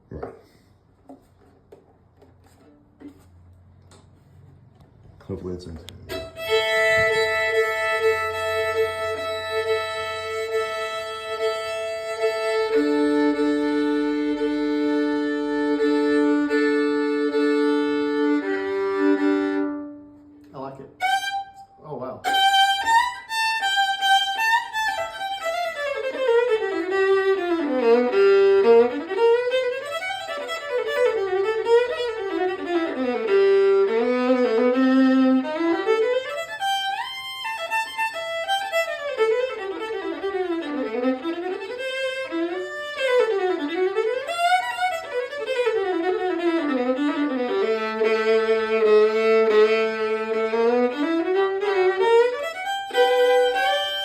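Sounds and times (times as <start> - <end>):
solo fiddle played with bow: 5.8 - 54.0.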